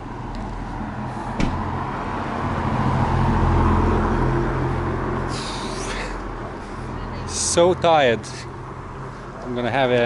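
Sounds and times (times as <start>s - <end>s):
vehicle engine passing by: 0.4s - 10.0s.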